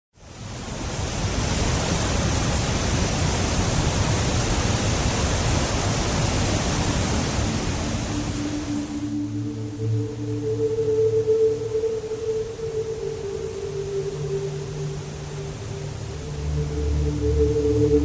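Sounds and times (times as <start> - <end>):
rushing river water: 0.2 - 18.0.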